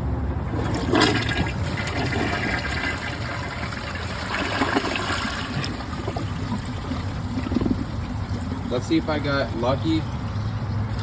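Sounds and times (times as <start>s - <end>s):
toilet flushing: 0.4s - 10.4s
water rushing through bowl: 0.4s - 11.0s.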